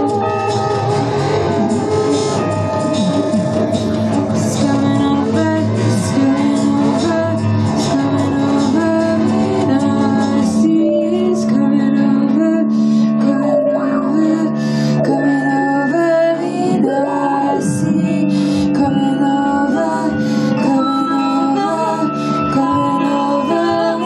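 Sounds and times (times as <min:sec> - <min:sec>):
electric guitar melody: 0:00.0 - 0:24.0
live band music: 0:00.0 - 0:24.0.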